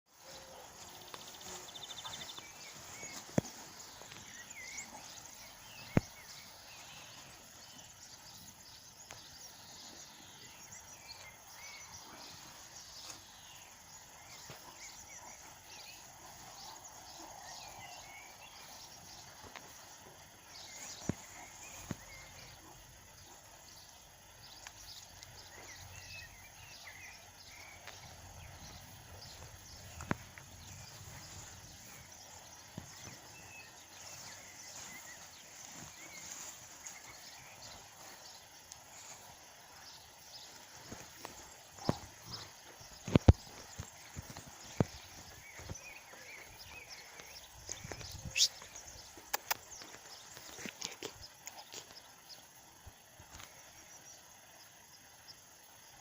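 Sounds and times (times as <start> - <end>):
bird chirps: 0.1 - 52.5
faint steady hiss: 0.1 - 56.0.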